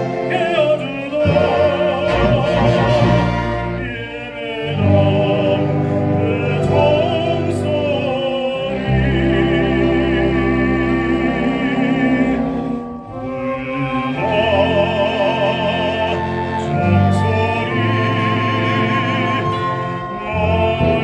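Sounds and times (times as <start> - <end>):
baritone singing: 0.0 - 21.0
orchestral accompaniment: 0.0 - 21.0.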